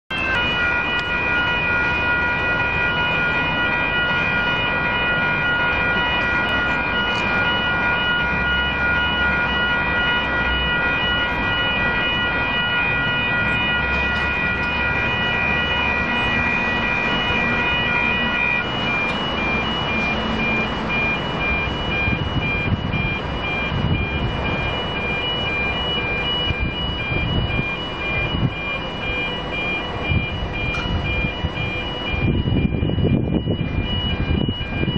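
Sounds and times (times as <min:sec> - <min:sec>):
level crossing warning bells: 0:00.1 - 0:34.9.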